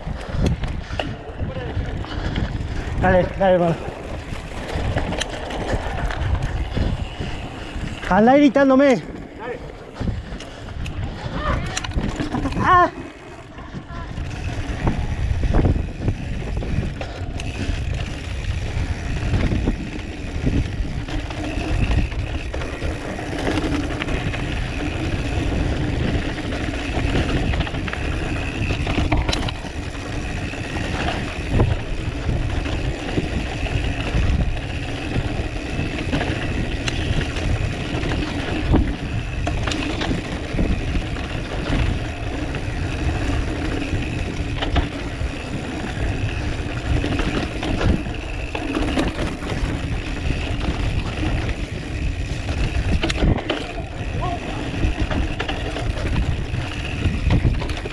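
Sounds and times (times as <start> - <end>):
wind and tyres rumbling: 0.0 - 57.9
bike knocks and rattles: 0.3 - 57.9.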